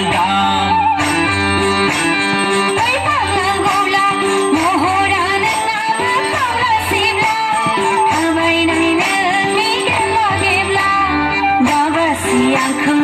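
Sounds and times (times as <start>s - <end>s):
instrumental accompaniment: 0.0s - 13.0s.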